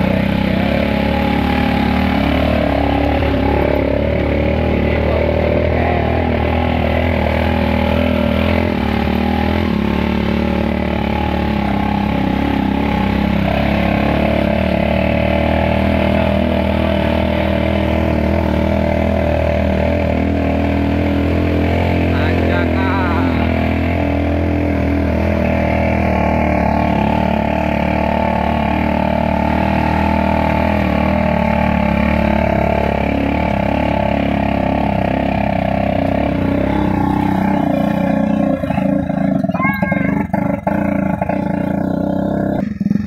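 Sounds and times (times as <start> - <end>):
small motorcycle engine running: 0.0 - 43.0.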